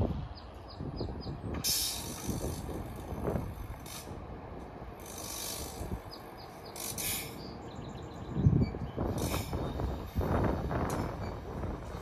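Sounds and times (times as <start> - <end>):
train equipment low rumble: 0.0 - 12.0.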